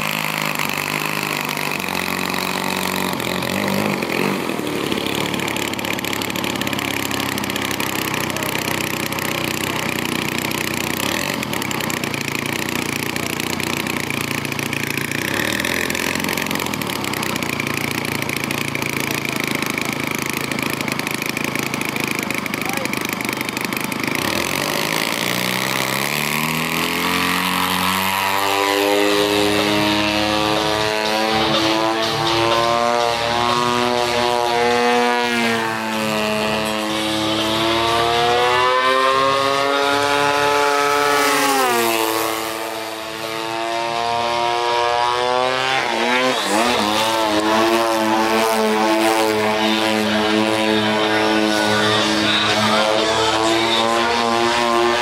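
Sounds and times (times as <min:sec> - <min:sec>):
model airplane engine: 0:00.0 - 0:55.0.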